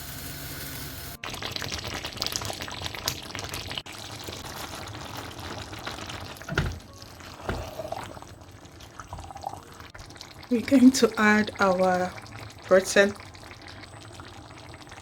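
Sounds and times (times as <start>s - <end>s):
water pouring and splashing: 0.8s - 15.0s
pot of stew simmering: 1.1s - 15.0s.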